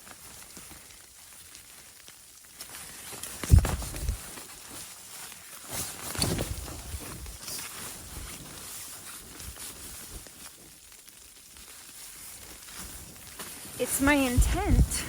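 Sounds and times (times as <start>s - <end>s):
sleeping bag and tent fabric rustling: 0.0s - 15.0s.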